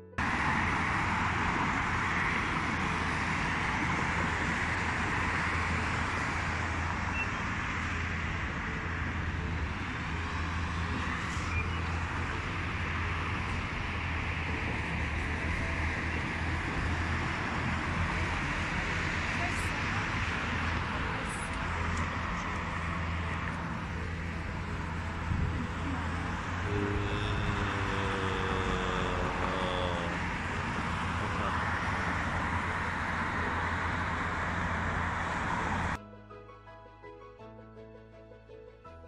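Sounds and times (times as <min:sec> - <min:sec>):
low traffic rumble: 0:00.0 - 0:36.0
constant city hiss: 0:00.2 - 0:36.0.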